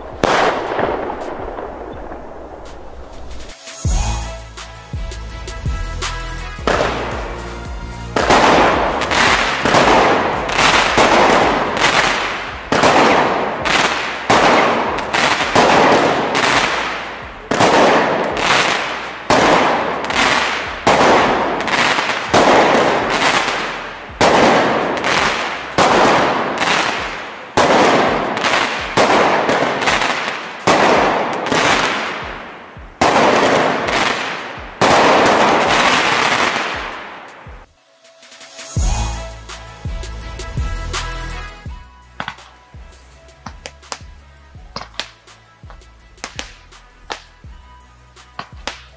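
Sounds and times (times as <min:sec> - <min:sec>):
firework shots banging and hissing: 0:00.0 - 0:48.9.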